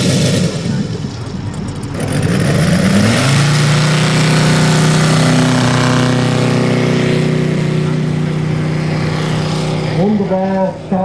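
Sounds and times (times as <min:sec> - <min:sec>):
model plane radial engine: 0:00.0 - 0:11.0.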